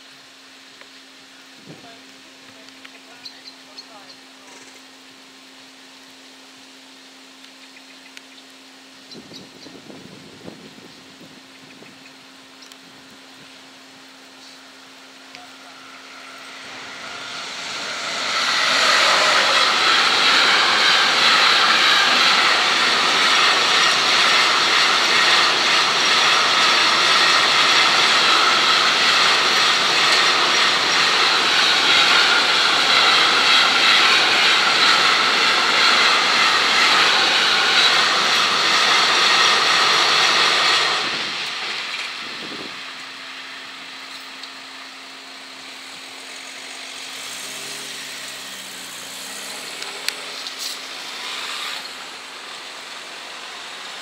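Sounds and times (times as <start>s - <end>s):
freight train wheels on rails: 9.0s - 54.0s.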